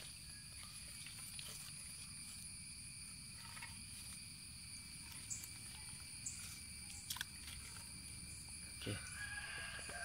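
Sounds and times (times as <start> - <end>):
high-pitched insect buzz: 0.0 - 10.0.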